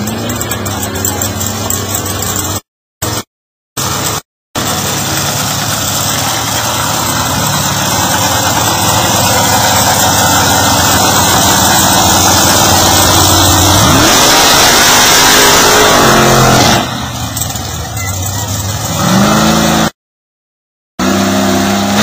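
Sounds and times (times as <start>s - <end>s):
truck engine revving in mud: 0.0s - 20.0s, 21.0s - 22.0s.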